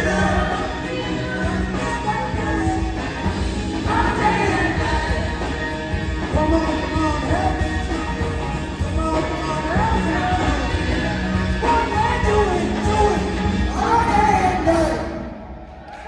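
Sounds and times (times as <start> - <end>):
rock song with singing: 0.0 - 15.6.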